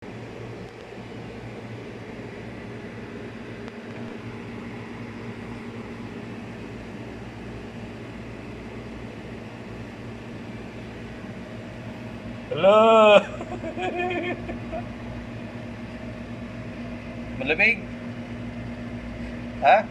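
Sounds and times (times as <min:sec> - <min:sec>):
appliance motor and fan hum: 0:00.0 - 0:19.9.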